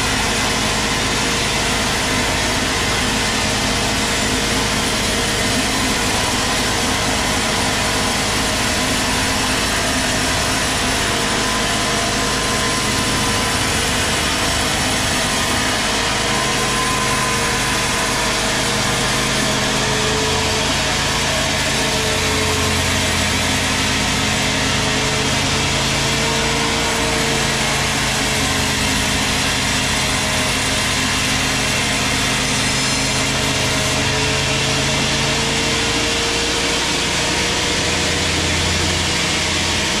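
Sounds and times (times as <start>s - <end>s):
band saw cutting through log: 0.0s - 40.0s.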